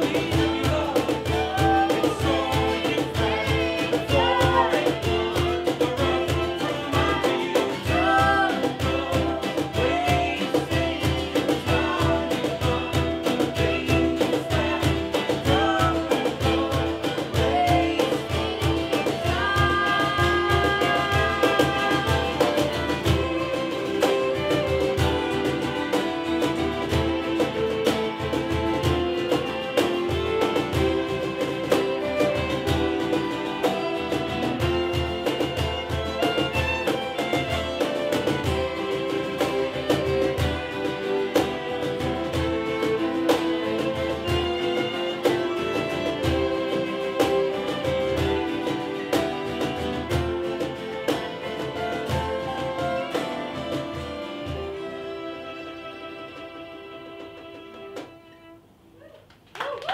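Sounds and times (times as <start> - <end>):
people singing: 0.0 - 50.2
strummed acoustic guitars: 0.0 - 58.7
violins: 0.0 - 59.0.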